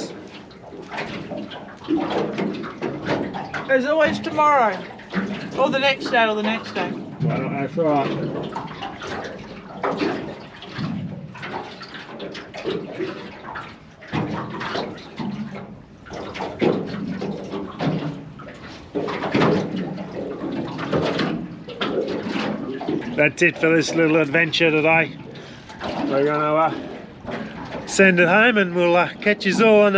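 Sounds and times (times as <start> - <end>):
water sloshing and splashing: 0.0 - 29.9.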